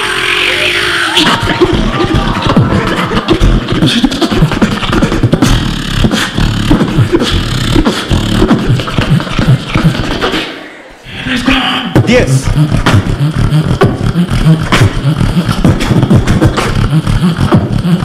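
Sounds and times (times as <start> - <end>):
deep bass: 0.0 - 10.2, 11.1 - 18.0
beatboxing into a microphone: 0.0 - 10.7, 11.5 - 18.0.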